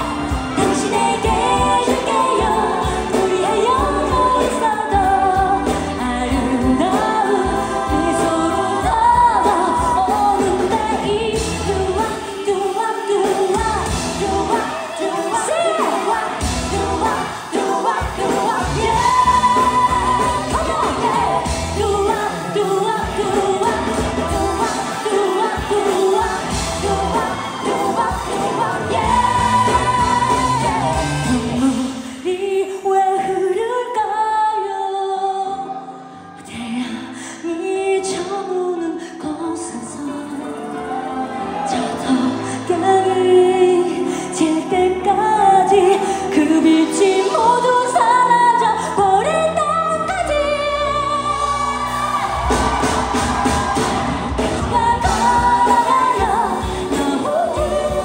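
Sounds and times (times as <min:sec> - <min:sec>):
woman singing into a microphone: 0:00.0 - 0:53.1, 0:54.3 - 0:58.0
pop band track with steady beat: 0:00.0 - 0:58.0.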